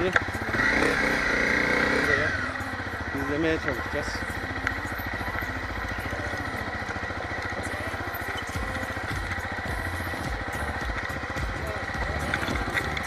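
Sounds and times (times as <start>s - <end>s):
motorcycle engine running: 0.0s - 13.0s
steady high whine: 0.0s - 13.0s.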